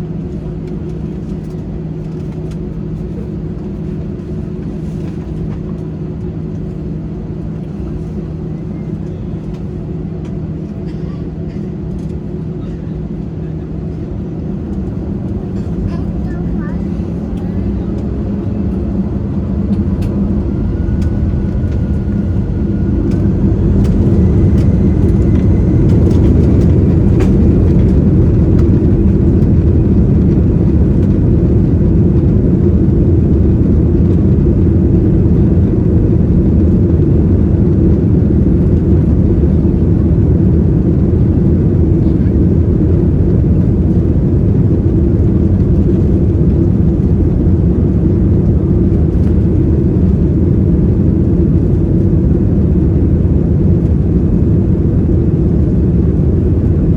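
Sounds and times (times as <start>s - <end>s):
jet engines from cabin: 0.0s - 56.9s.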